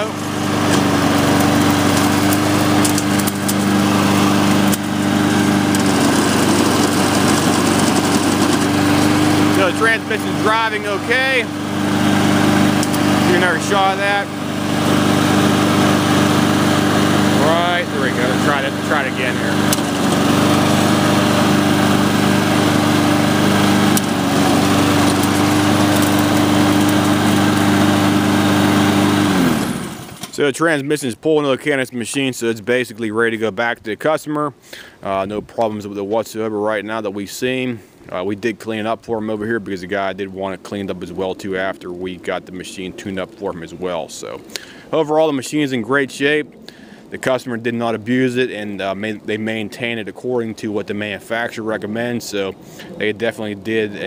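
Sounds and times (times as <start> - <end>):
lawn mower engine running: 0.0 - 32.3, 34.5 - 54.0.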